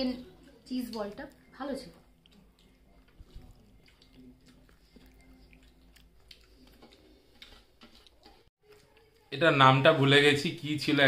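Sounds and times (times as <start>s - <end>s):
chewing fried snack: 0.4s - 9.3s.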